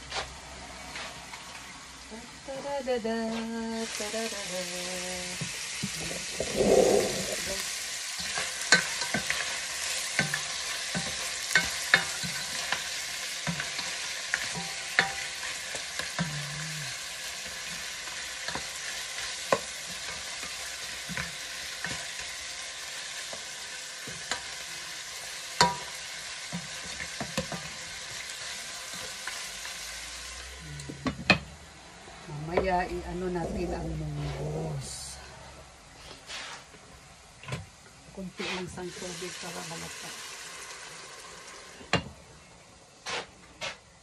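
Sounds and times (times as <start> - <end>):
meat and vegetables sizzling: 0.0 - 43.3.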